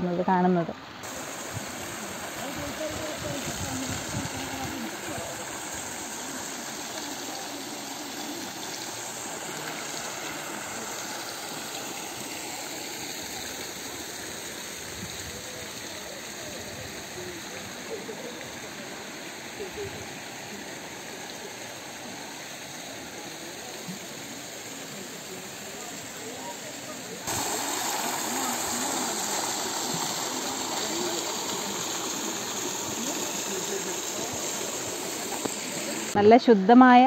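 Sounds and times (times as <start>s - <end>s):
water rushing over rock: 1.0s - 36.2s.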